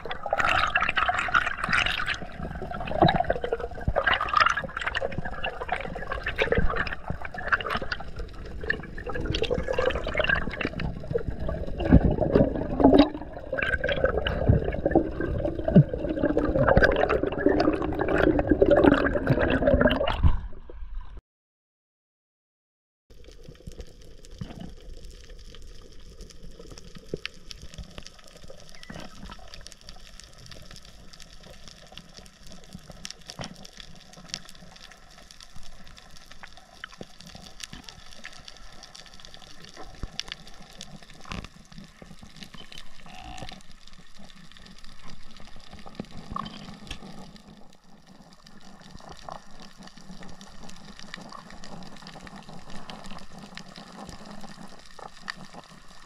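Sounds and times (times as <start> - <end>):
underwater water noise: 0.0 - 21.2, 23.1 - 56.0
sharp clicks and crackles: 0.1 - 14.8, 23.1 - 56.0.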